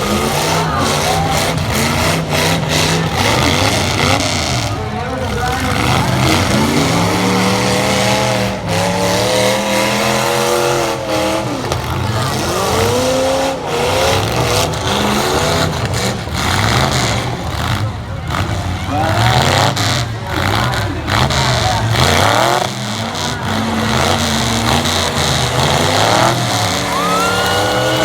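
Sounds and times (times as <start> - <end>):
truck engines revving: 0.0 - 28.0
trucks crashing: 0.0 - 28.0.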